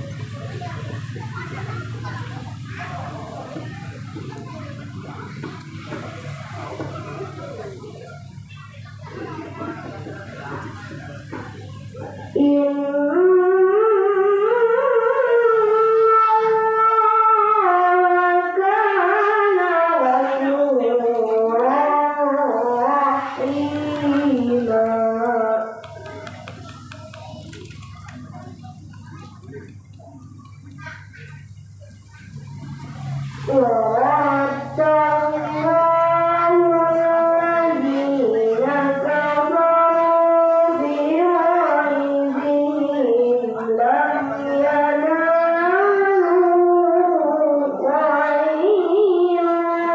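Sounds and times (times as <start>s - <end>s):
boy chanting into a microphone: 0.0s - 49.9s.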